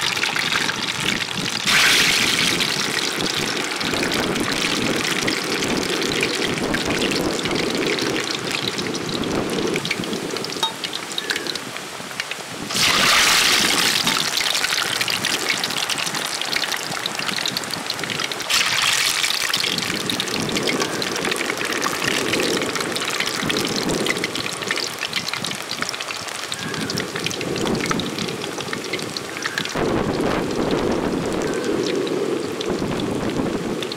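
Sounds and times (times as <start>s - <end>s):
deep-frying sizzle in oil: 0.0s - 33.9s.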